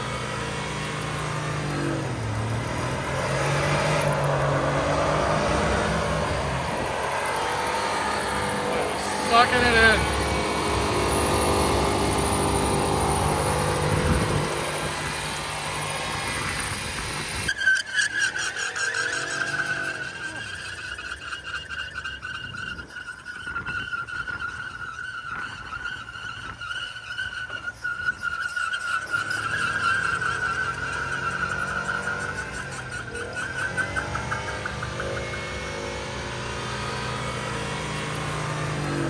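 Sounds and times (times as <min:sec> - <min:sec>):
engine rising and falling: 0:00.0 - 0:23.2, 0:28.7 - 0:39.0
tire squealing with fast chatter: 0:00.0 - 0:39.0.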